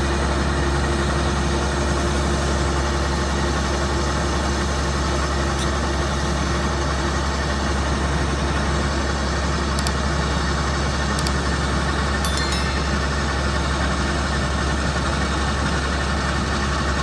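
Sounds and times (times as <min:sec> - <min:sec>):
combine harvester engine droning: 0:00.0 - 0:17.0.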